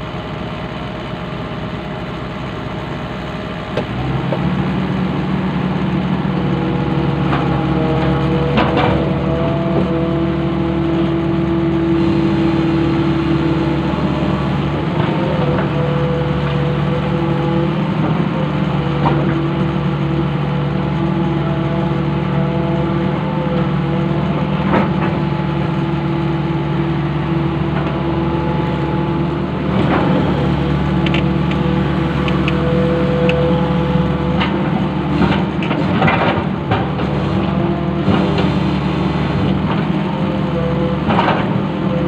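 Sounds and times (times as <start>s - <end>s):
excavator engine running: 0.0s - 42.0s.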